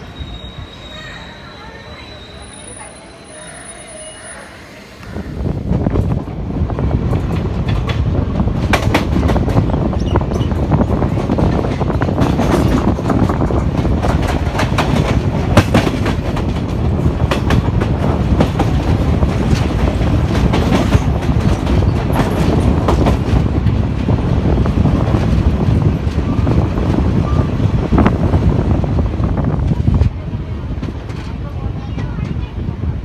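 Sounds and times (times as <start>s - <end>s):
train wheels rumbling on rails: 0.0s - 33.0s
rail joint clicks and knocks: 5.0s - 32.6s.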